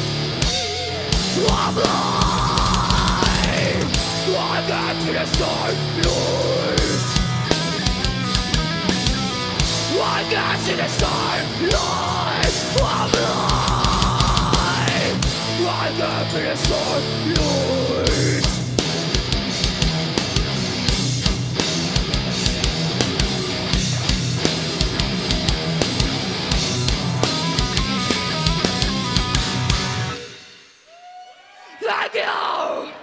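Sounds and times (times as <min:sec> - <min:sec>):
metal band playing live: 0:00.0 - 0:30.9.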